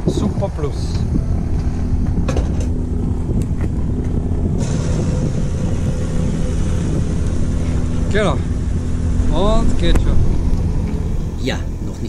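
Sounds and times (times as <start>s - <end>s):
mechanical hum: 0.0s - 12.0s
wind on microphone: 0.0s - 12.0s.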